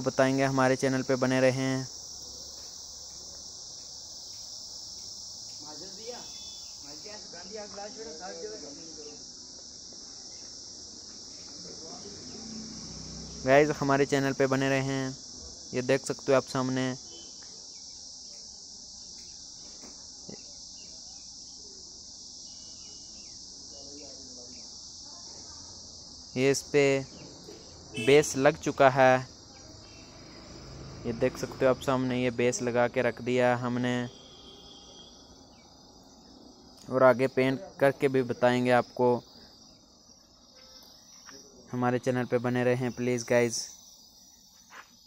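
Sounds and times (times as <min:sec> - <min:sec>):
insects chirping: 0:00.0 - 0:45.0.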